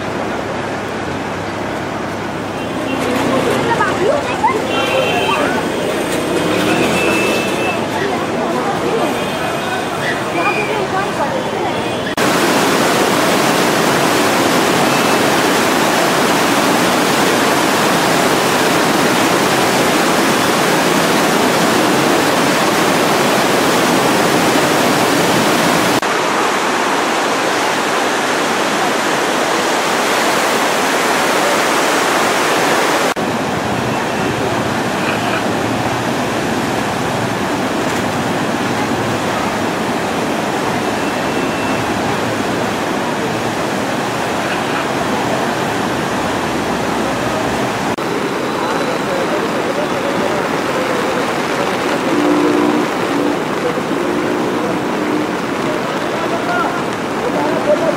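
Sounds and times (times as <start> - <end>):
floodwater rushing: 0.0 - 57.9.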